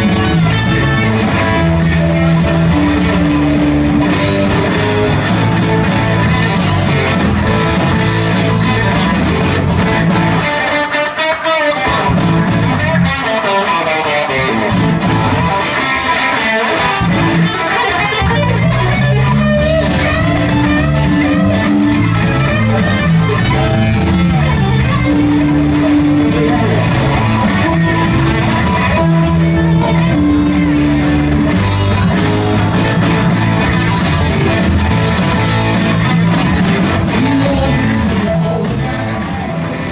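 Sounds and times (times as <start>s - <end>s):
bass guitar: 0.0s - 39.9s
drum kit: 0.0s - 39.9s
electric guitar: 0.0s - 39.9s
keyboard: 0.0s - 39.9s.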